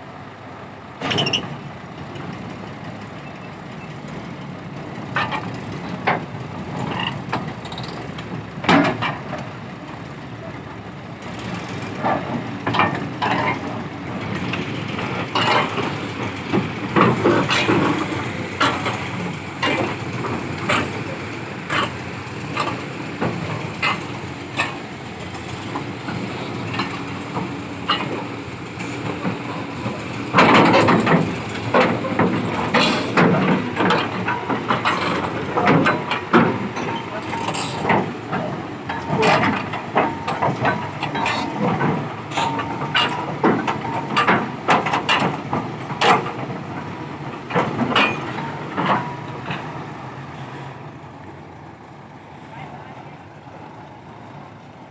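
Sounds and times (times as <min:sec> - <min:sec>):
heavy diesel engine running: 0:00.0 - 0:54.9
metal clanks and knocks: 0:01.0 - 0:01.6, 0:05.1 - 0:09.5, 0:11.4 - 0:50.6.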